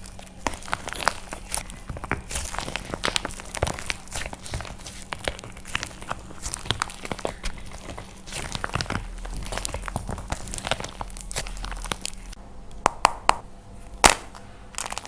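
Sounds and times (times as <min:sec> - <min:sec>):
dried clay crushed by hand: 0:00.0 - 0:15.0.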